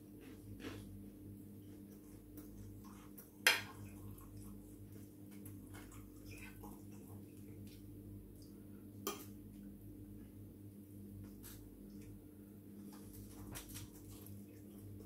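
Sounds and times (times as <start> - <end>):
soft chewing: 0.0 - 9.7, 11.1 - 15.0
steady low hum: 0.0 - 15.0.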